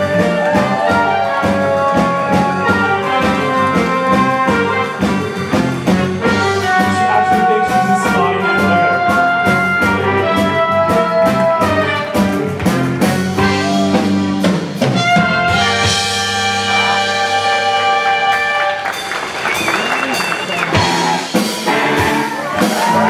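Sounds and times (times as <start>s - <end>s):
live pop-rock band: 0.0s - 23.0s.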